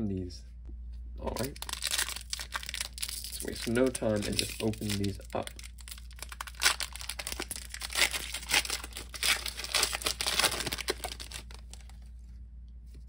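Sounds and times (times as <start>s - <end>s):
foil wrapper crinkling and tearing: 1.3s - 12.0s.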